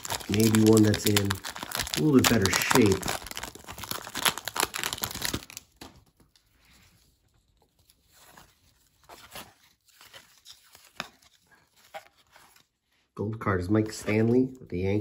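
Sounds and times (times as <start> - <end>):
cards rustling and flicking: 0.0 - 6.8, 7.4 - 12.7
paper wrapper crinkling: 0.0 - 12.7.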